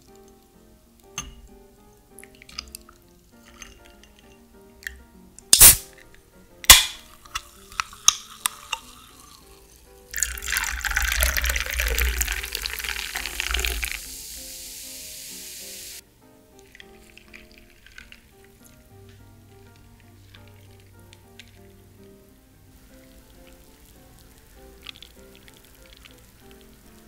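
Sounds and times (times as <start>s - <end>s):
soft background music: 0.0s - 27.0s
sparkling water fizzing: 0.0s - 27.0s
ice ticking: 2.1s - 14.6s, 16.6s - 22.2s, 22.9s - 27.0s.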